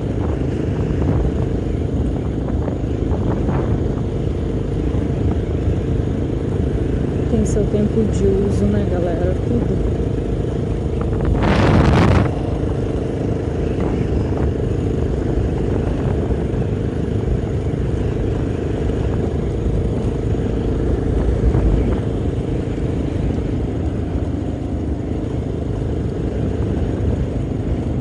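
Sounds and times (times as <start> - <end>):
motorcycle engine running: 0.0 - 28.0
wind rushing on microphone: 0.0 - 28.0.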